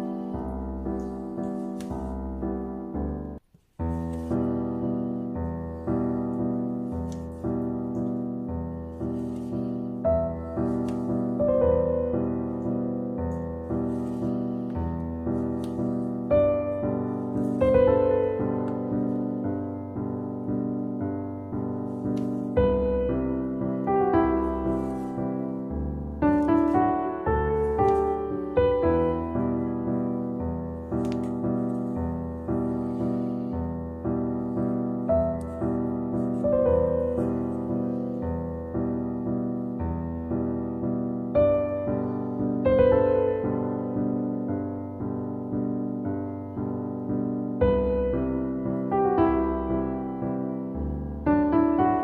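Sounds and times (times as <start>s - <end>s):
slow gentle piano music: 0.0s - 52.0s.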